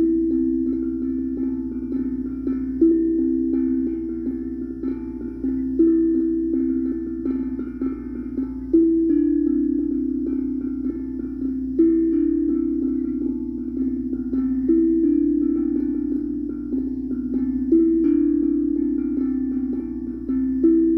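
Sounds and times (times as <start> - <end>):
steel tongue drum notes: 0.0 - 20.9.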